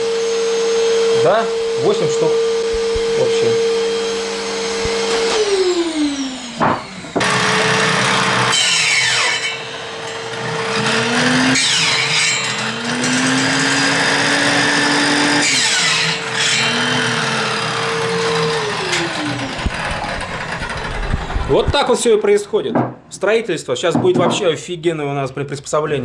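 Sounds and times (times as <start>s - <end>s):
circular saw cutting wood: 0.0s - 22.0s.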